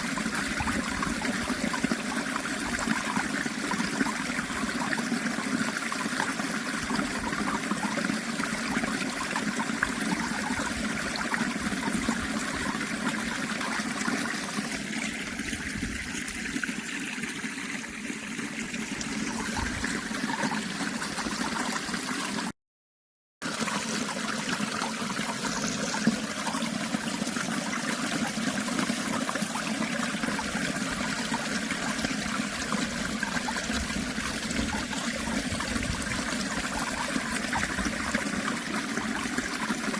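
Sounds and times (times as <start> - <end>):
running water: 0.0 - 22.5, 23.4 - 39.9.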